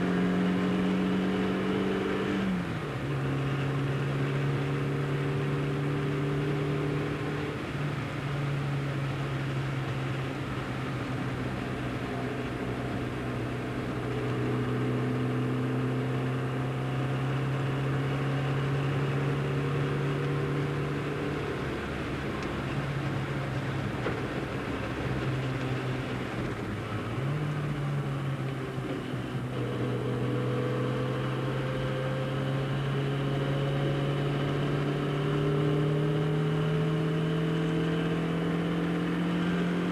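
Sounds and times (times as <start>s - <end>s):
car engine pulling hard: 0.0s - 39.9s.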